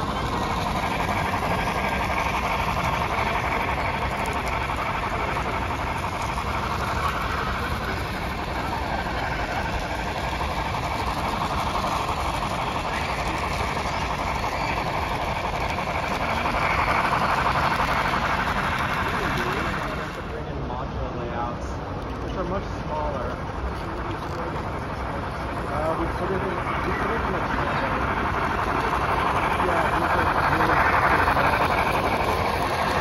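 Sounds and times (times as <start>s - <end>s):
crowd chatter: 0.0s - 33.0s
model trains running: 0.0s - 33.0s.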